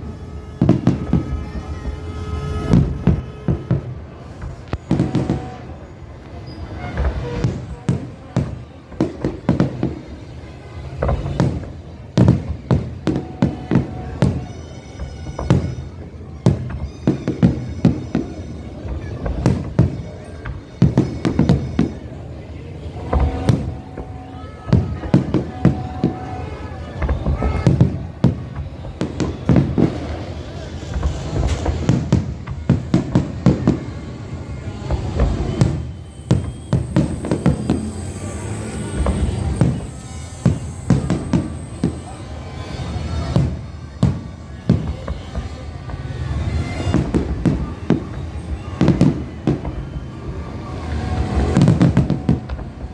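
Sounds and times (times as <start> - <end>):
fireworks bangs: 0.0 - 52.9
music: 0.0 - 52.9.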